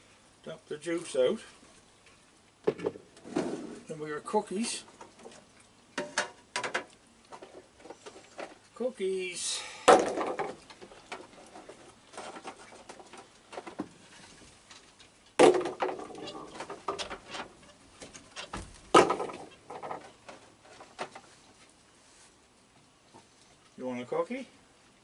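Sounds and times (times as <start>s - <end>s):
raccoons feeding ticks and rustles: 0.0s - 9.4s, 10.5s - 25.0s.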